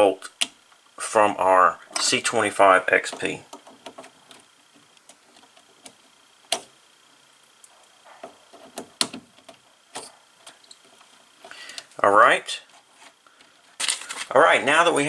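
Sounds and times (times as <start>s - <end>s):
faint high whine: 0.0s - 15.0s.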